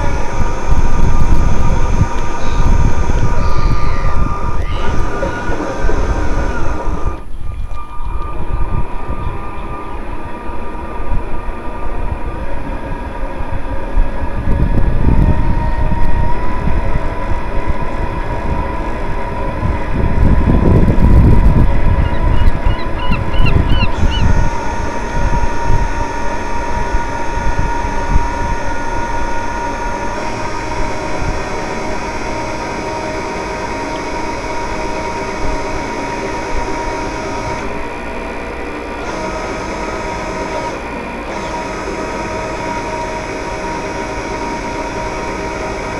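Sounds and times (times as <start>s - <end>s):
electric motor whine: 0.0s - 45.9s
wind buffeting microphone: 0.0s - 45.9s.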